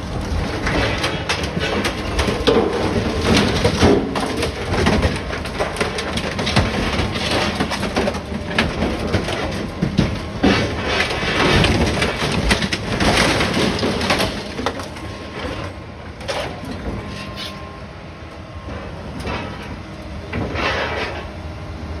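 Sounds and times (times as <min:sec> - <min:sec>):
sheet metal crunching and tearing: 0:00.0 - 0:17.7
excavator engine running: 0:00.0 - 0:22.0.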